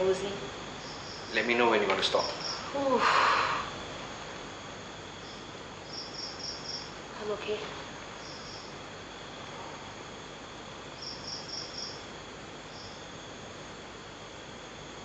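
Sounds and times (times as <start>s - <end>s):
high background hiss: 0.0s - 15.0s
insects chirping: 0.0s - 15.0s.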